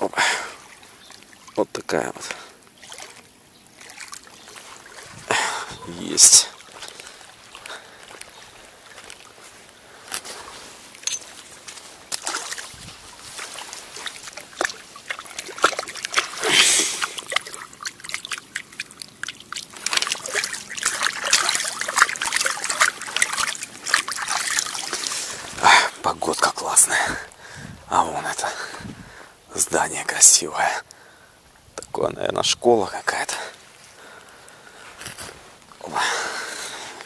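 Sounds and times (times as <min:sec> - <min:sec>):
water splashing and trickling: 0:00.0 - 0:37.0.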